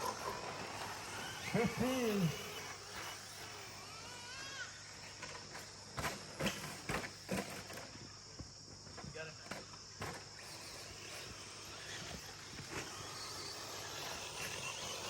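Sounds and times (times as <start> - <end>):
rc truck motor whine: 0.0 - 8.3, 9.4 - 15.0.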